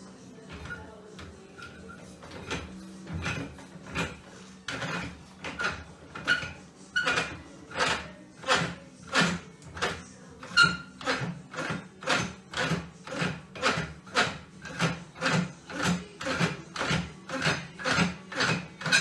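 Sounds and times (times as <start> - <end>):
manual construction strokes: 0.1 - 19.0.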